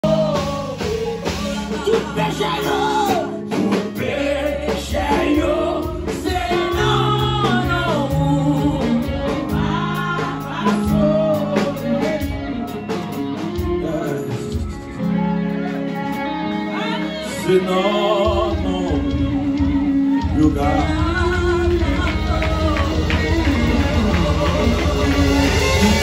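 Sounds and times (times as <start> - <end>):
bass line: 0.0 - 26.0
drums: 0.0 - 26.0
gospel singing: 0.0 - 26.0.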